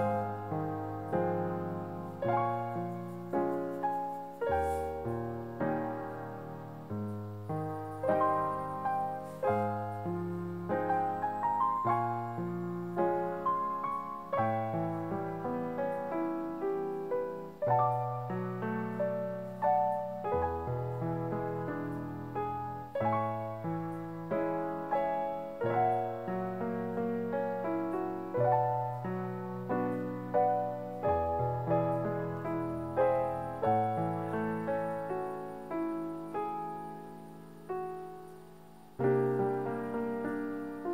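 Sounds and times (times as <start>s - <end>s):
gentle solo piano: 0.0s - 40.9s.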